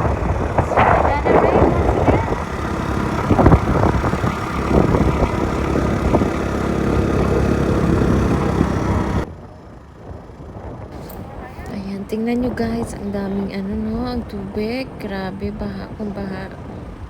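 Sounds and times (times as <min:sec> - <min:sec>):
rushing noise of travel: 0:00.0 - 0:17.0
vehicle engine running: 0:00.0 - 0:17.0.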